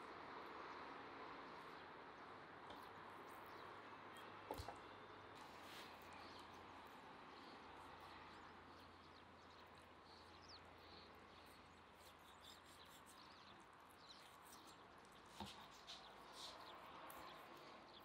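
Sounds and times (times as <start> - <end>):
faint bird chirps: 1.5 - 18.0.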